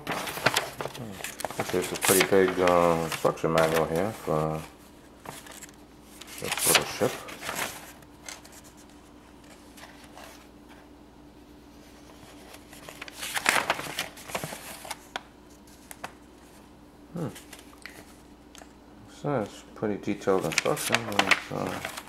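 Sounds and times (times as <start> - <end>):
paper pages rustling: 0.0 - 10.9, 11.8 - 16.6, 17.2 - 18.7, 20.2 - 22.0.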